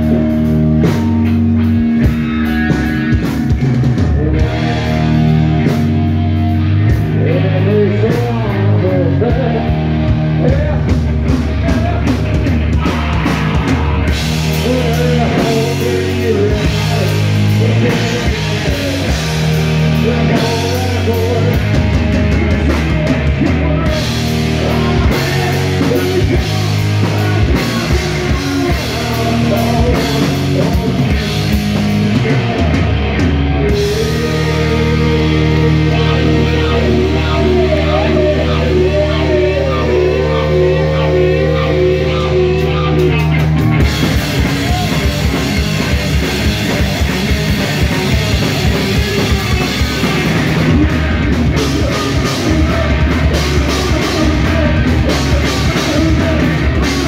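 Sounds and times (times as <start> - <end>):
bass guitar: 0.0 - 57.0
drum kit: 0.0 - 57.0
electric guitars: 0.0 - 57.0
man singing: 3.9 - 5.9, 7.0 - 57.0.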